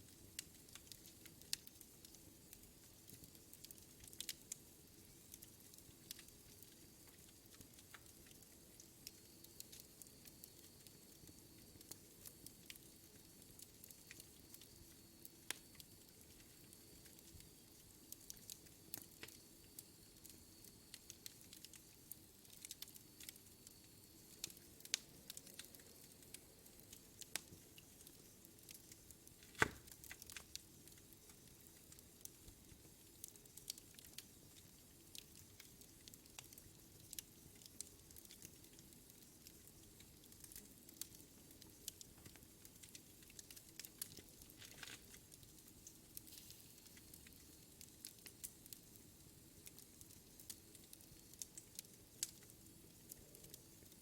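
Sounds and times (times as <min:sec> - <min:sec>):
fire popping and snapping: 0:00.0 - 0:54.0
wood fire crackling: 0:00.0 - 0:54.0.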